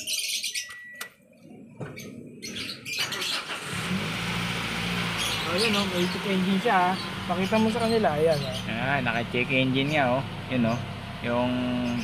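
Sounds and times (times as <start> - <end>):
birds chirping: 0.0 - 3.8, 4.9 - 12.0
car engine starting and running: 2.0 - 12.0.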